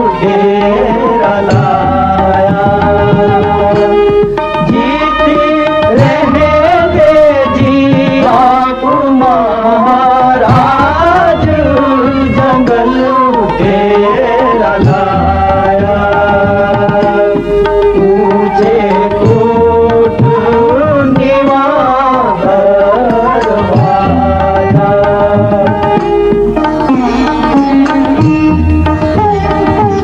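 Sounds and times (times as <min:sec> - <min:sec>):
folk melody: 0:00.0 - 0:30.0
hand drum rhythm: 0:00.0 - 0:30.0.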